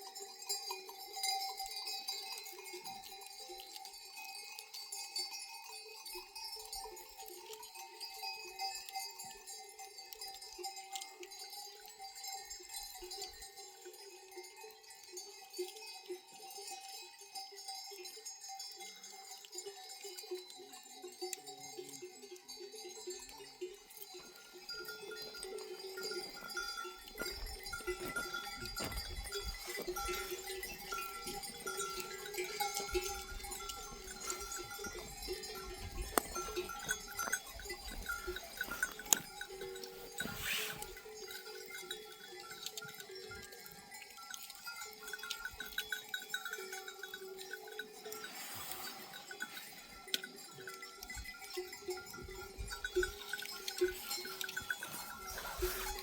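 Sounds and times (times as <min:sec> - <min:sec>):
sheep bells clanking: 0:00.0 - 0:56.0.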